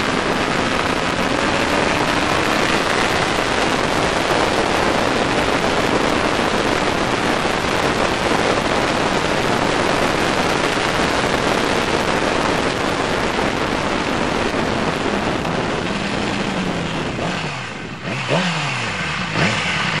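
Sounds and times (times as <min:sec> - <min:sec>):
motorcycle engine revving: 0:00.0 - 0:20.0
wind rushing over microphone: 0:00.0 - 0:20.0.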